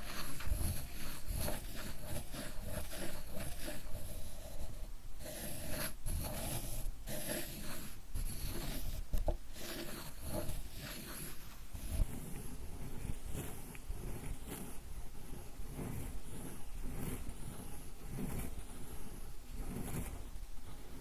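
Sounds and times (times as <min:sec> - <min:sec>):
ink stick grinding on inkstone: 0:00.0 - 0:21.0.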